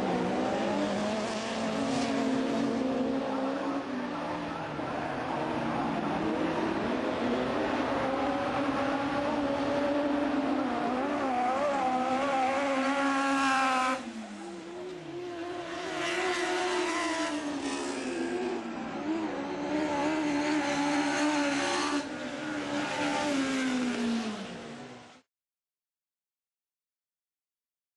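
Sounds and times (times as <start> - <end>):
race car engines revving: 0.0 - 25.2.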